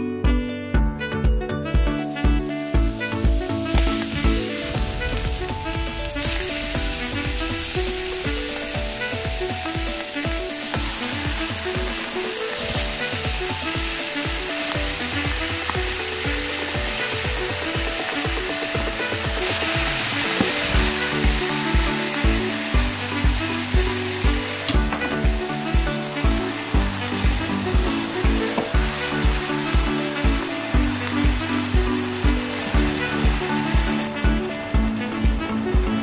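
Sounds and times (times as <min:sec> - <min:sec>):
background music with even beat: 0:00.0 - 0:36.0
meat sizzling in a pan: 0:01.8 - 0:34.4.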